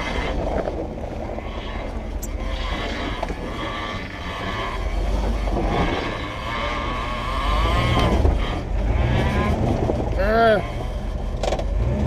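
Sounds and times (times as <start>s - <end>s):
wavering whine: 0.0s - 11.6s
off-road vehicle engine running: 0.0s - 12.0s.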